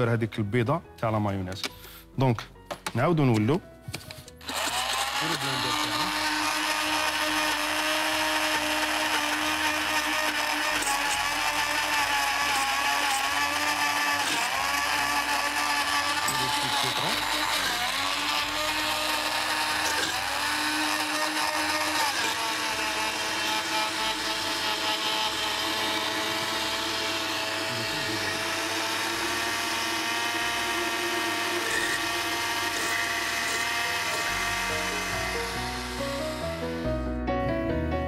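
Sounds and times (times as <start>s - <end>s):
blender motor whining: 4.3s - 37.1s.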